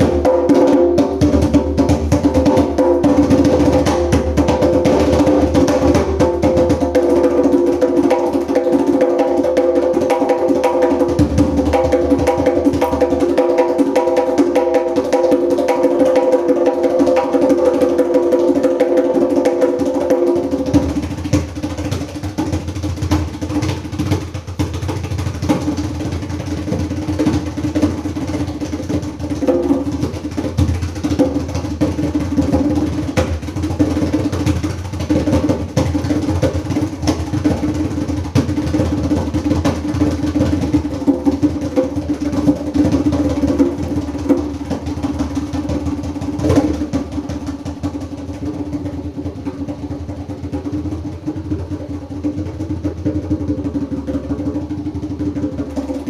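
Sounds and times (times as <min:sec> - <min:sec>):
djembe played by hand: 0:00.0 - 0:56.0.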